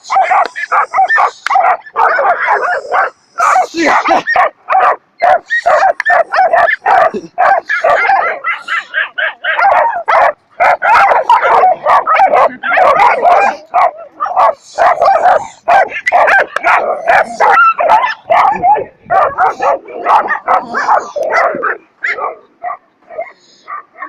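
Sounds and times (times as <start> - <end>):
dog barking and yipping: 0.0 - 24.0.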